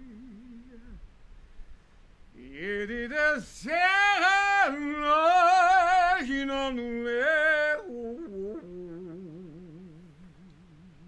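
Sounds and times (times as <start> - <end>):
man singing unaccompanied: 0.0 - 1.1, 2.3 - 11.0.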